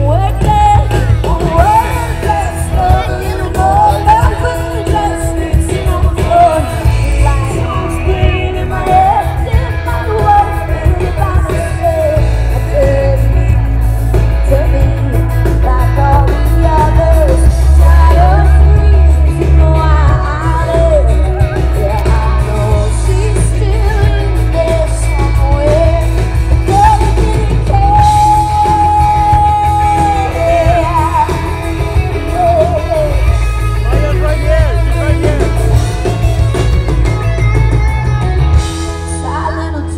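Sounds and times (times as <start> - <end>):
person singing: 0.0 - 37.4
live rock band playing: 0.0 - 39.9.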